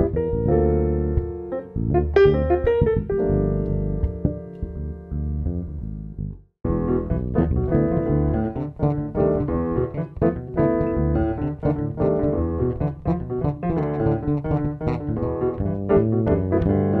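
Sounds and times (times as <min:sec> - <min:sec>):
electric bass guitar: 0:00.0 - 0:17.0
jazz piano: 0:00.0 - 0:17.0.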